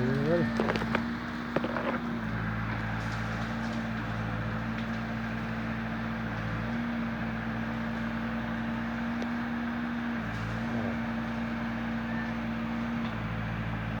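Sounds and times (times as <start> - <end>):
motor droning hum: 0.0 - 14.0.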